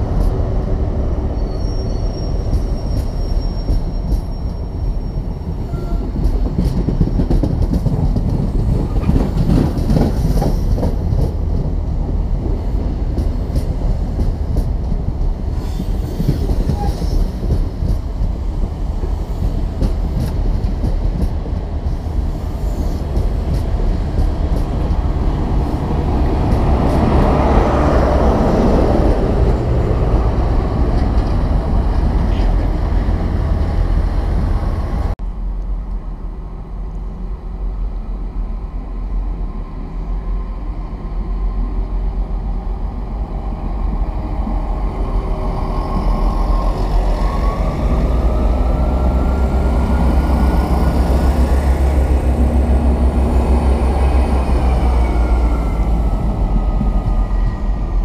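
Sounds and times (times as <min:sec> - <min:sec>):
diesel locomotive engine: 0:00.0 - 0:58.0
train wheels rumbling on rails: 0:00.0 - 0:58.0.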